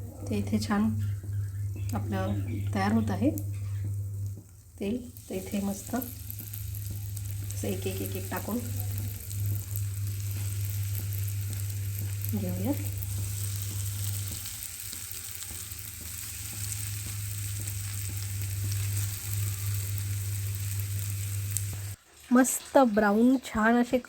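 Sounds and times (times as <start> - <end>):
constant low hum: 0.0 - 22.0
bread sizzling in oil: 0.6 - 23.9.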